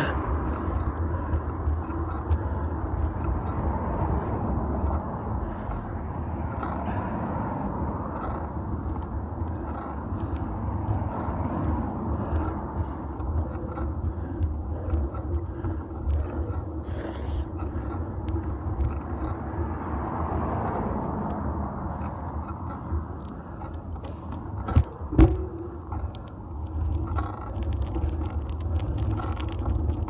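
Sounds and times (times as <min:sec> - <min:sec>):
bicycle tyres rolling on road: 0:00.0 - 0:30.0
clicks and rattles from bumps: 0:00.0 - 0:30.0
wind: 0:00.0 - 0:30.0.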